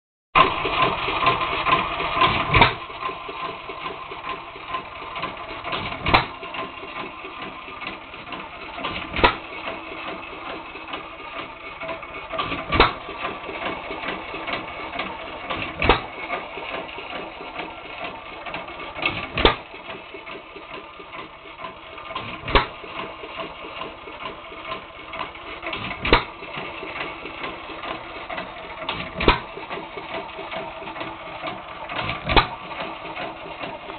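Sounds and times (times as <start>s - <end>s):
engine clatter: 0.4s - 33.9s
engine firing stroke: 0.4s - 33.9s.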